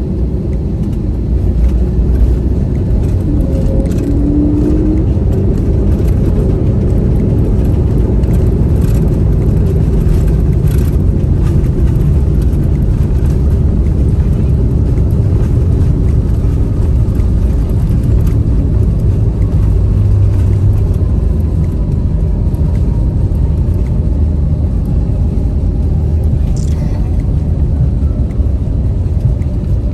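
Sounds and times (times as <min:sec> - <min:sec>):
aircraft cabin rumble: 0:00.0 - 0:29.9.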